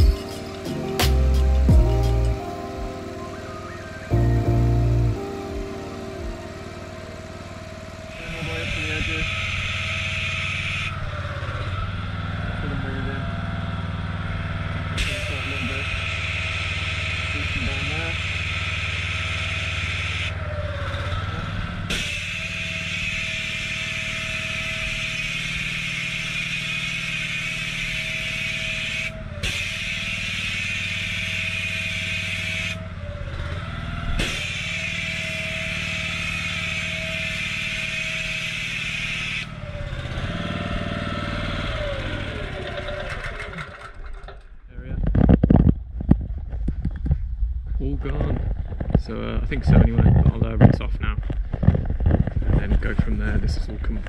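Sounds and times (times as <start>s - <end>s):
pressure washer engine running: 0.0s - 44.4s.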